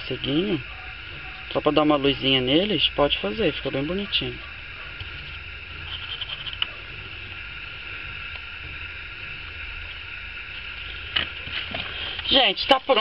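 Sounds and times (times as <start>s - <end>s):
high-pitched drone with low hum: 0.0s - 13.0s.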